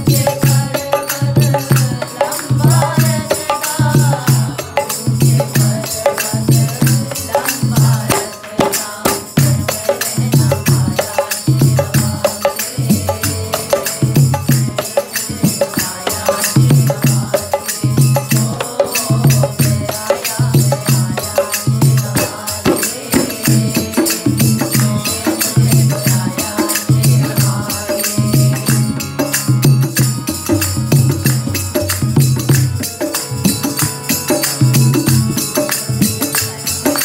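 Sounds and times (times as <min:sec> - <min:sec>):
jingling tambourine-like beat: 0:00.0 - 0:37.0.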